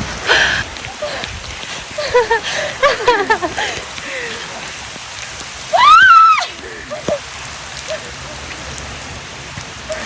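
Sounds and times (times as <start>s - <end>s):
rain hiss: 0.0s - 10.0s.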